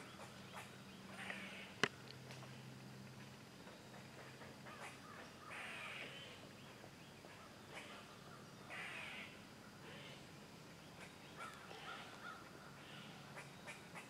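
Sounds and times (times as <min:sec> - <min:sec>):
faint crows cawing: 0:00.0 - 0:02.6, 0:03.2 - 0:06.5, 0:07.2 - 0:10.3, 0:10.9 - 0:14.0.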